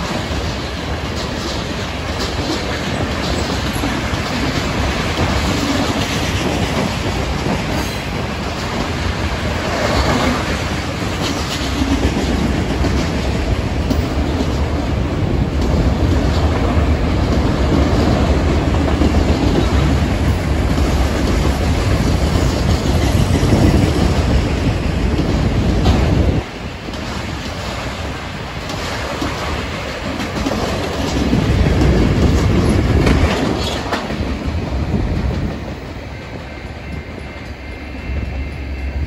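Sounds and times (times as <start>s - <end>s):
wheels clattering on rail: 0.0s - 38.8s
freight train rumbling past: 0.0s - 39.0s.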